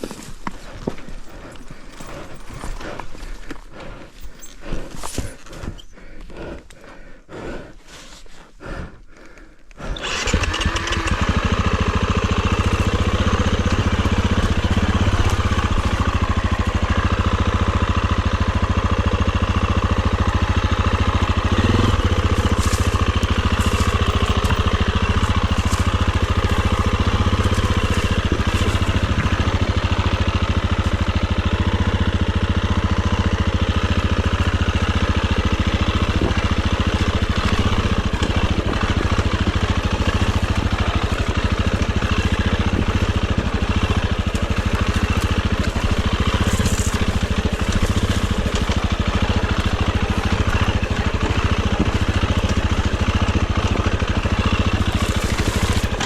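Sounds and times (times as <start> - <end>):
dirt bike engine running: 0.0 - 7.8, 8.6 - 56.0.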